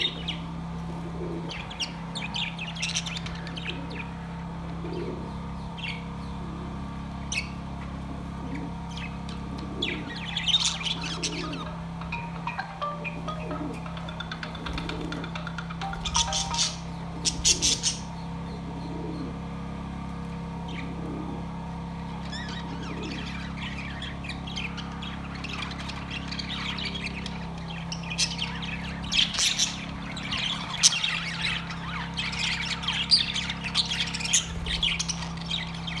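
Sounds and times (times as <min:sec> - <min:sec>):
budgerigars chirping and squawking: 0:00.0 - 0:06.4, 0:07.2 - 0:19.3, 0:22.1 - 0:36.0.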